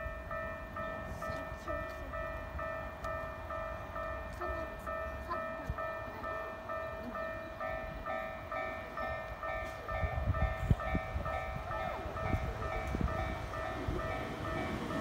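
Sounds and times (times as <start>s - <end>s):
level crossing alarm ringing: 0.0s - 15.0s
train rumble: 0.0s - 15.0s.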